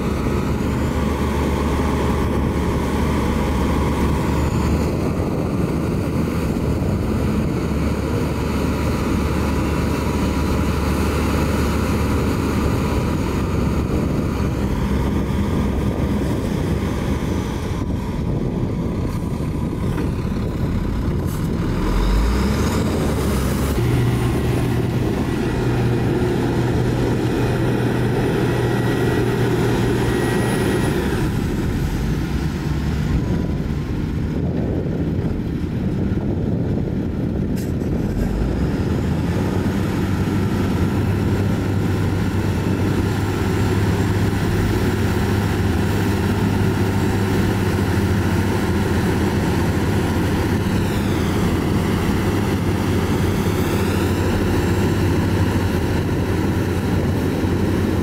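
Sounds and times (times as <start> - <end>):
heavy diesel truck engine: 0.0 - 58.0.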